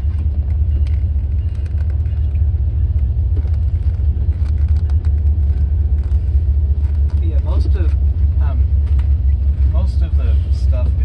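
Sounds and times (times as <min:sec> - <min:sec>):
low rumble in car cabin: 0:00.0 - 0:11.0.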